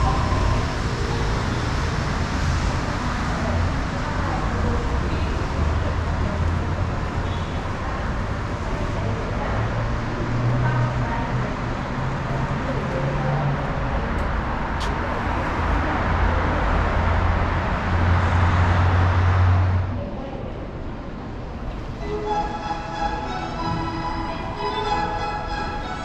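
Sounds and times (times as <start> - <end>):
monorail train humming: 0.0 - 26.0
road traffic: 0.0 - 26.0.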